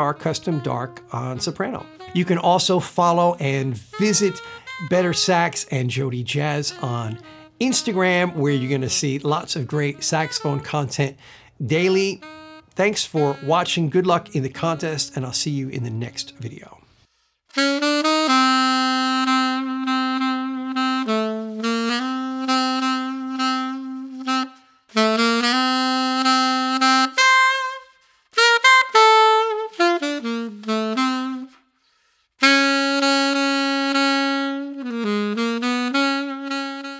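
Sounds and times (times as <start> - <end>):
alto saxophone jazz phrases: 0.0 - 36.9.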